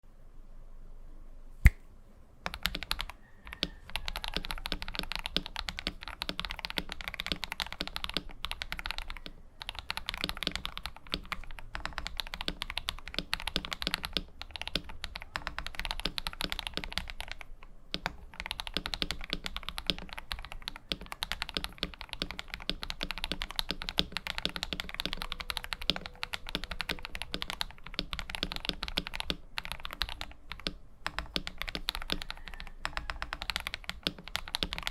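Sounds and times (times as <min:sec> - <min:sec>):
mechanical keyboard typing: 0:02.5 - 0:34.9.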